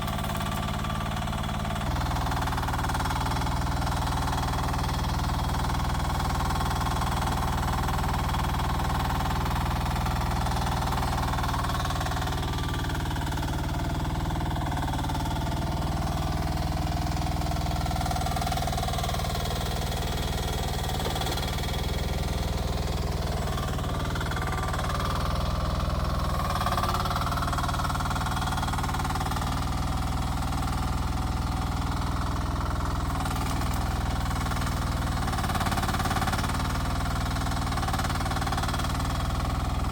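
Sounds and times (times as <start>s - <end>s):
mini excavator engine running: 0.0s - 39.9s.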